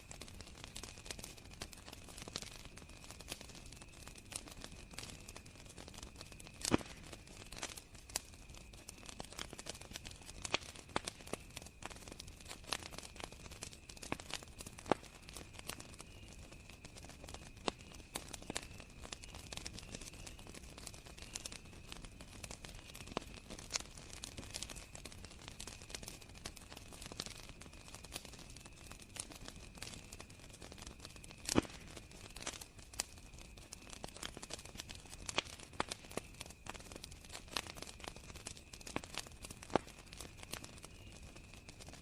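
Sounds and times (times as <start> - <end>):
wood fire crackling and popping: 0.0 - 42.0
crickets trilling: 0.1 - 42.0.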